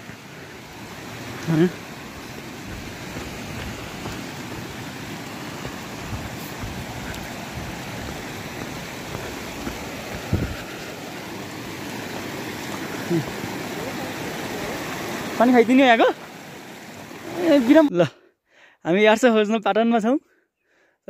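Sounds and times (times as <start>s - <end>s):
stream rushing over stones: 0.0s - 18.1s.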